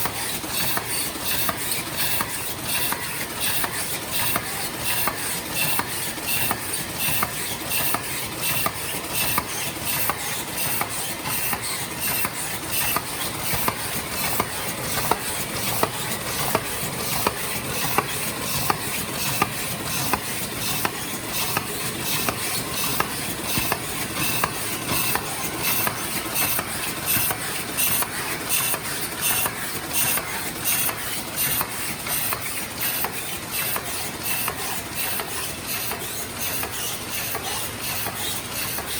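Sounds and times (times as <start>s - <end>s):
machine clattering rhythmically: 0.0s - 38.9s.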